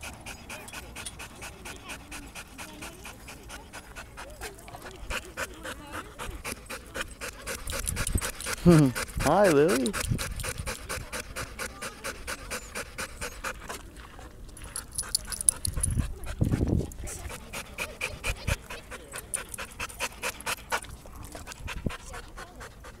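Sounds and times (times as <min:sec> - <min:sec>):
dog panting: 0:00.0 - 0:23.0.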